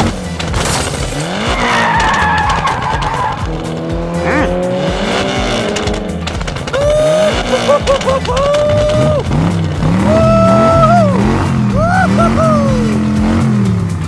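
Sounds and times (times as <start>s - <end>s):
tyres squealing: 0.0s - 13.8s
background music: 0.0s - 14.0s
racing engines revving: 0.0s - 14.0s.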